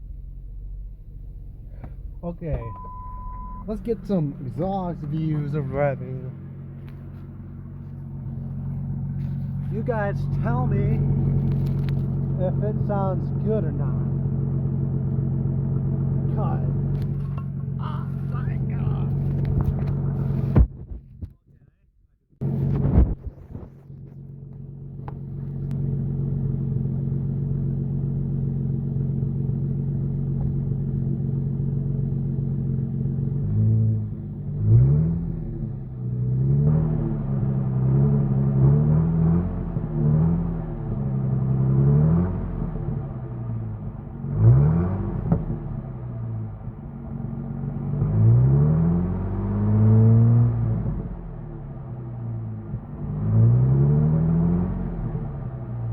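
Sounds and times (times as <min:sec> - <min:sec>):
car engine idling and revving: 0:00.0 - 0:21.4, 0:22.4 - 0:55.9.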